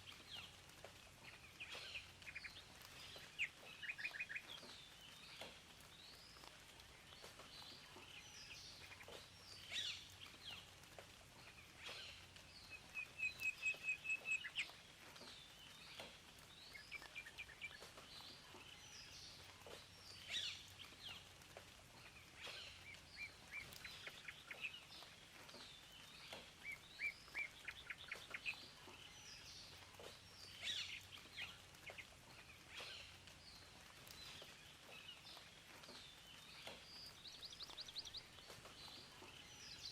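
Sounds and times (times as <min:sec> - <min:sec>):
faint background hiss: 0:00.0 - 0:39.9
wild birds calling and singing: 0:00.0 - 0:39.9.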